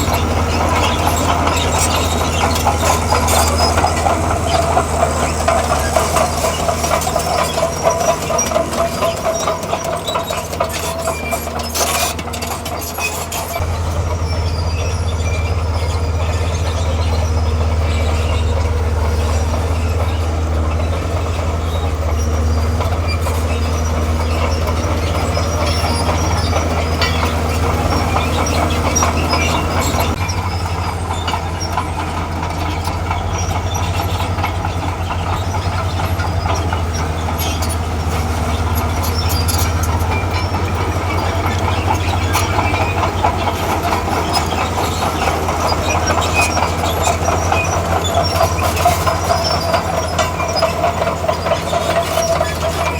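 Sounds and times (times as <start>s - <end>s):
diesel engine running: 0.0s - 52.9s
steel tracks clattering and squealing: 0.0s - 52.9s.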